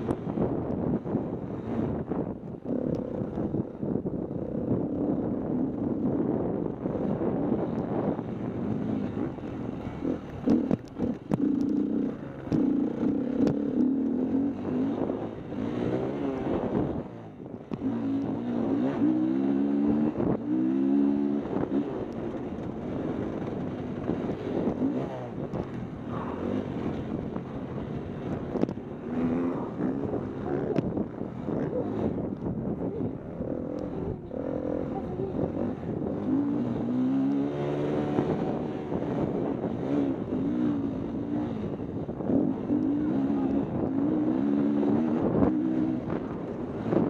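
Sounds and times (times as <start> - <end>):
wind rumbling on microphone: 0.0 - 47.0
dirt bike engine revving: 6.9 - 47.0.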